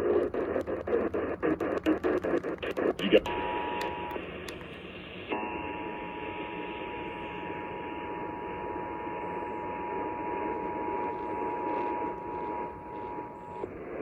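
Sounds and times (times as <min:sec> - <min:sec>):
radio hiss: 0:00.0 - 0:14.0.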